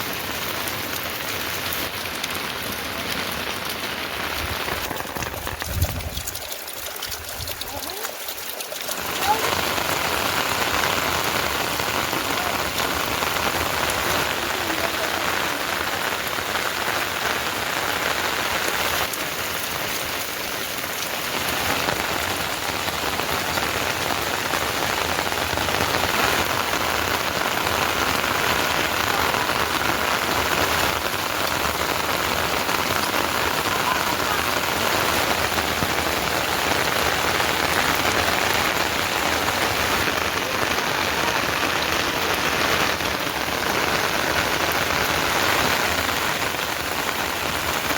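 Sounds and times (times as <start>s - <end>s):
heavy rain pattering: 0.0s - 47.9s.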